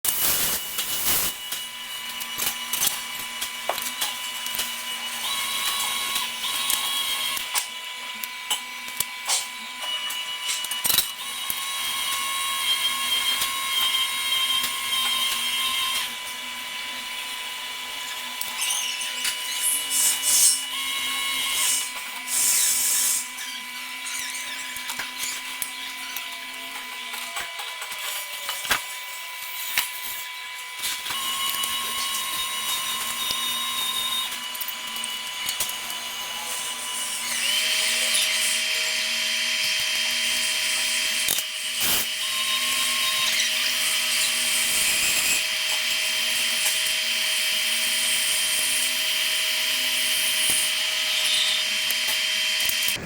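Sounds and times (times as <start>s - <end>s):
welding arc hiss and whine: 0.0s - 53.0s.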